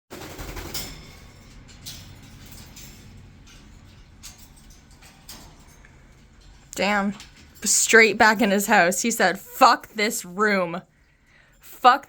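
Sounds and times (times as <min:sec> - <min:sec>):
low background hum: 0:00.2 - 0:12.0.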